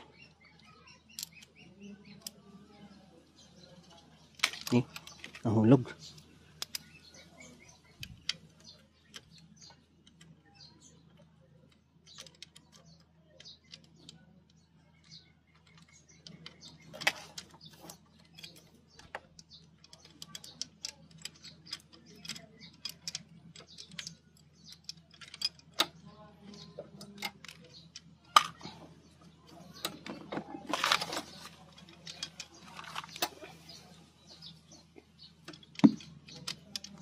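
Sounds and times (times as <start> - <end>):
metallic clicks of engine parts: 0.0 - 2.7, 3.6 - 37.0
birds chirping faintly: 0.0 - 37.0.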